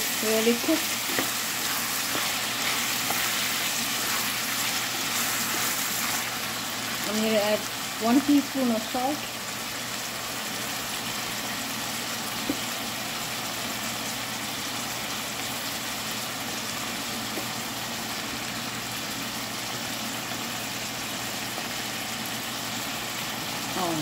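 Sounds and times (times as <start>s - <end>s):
vegetables sizzling in pot: 0.0s - 24.0s.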